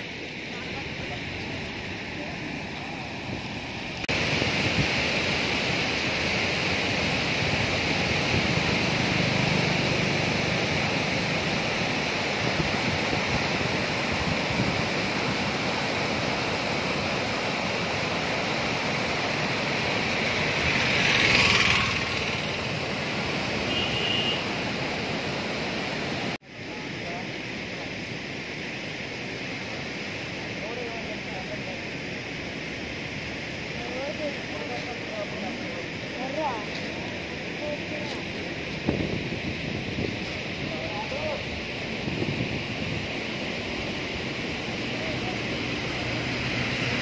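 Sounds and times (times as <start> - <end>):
floodwater rushing over a weir: 0.0 - 47.0.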